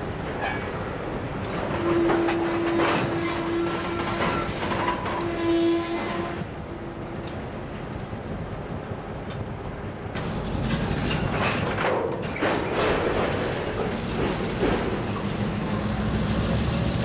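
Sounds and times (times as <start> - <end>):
train cars clanking: 0.0 - 17.0
train wheels rumbling on rails: 0.0 - 17.0.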